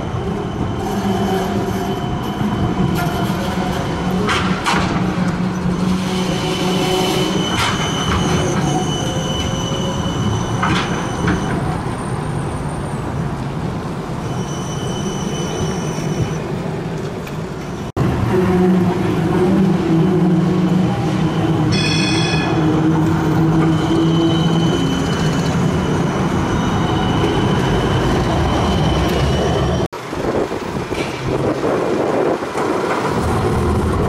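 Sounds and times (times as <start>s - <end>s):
tram wheels squealing on rails: 0.0s - 29.9s
tram low rumble: 0.0s - 34.0s.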